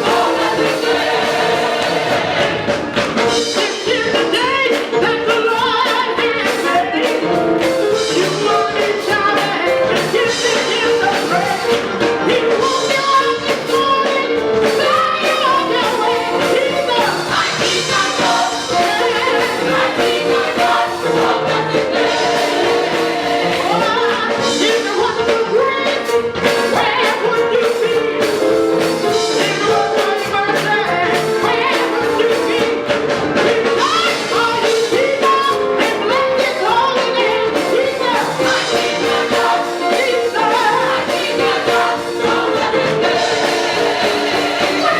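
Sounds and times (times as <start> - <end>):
gospel choir singing: 0.0 - 44.9
live band playing: 0.0 - 44.9.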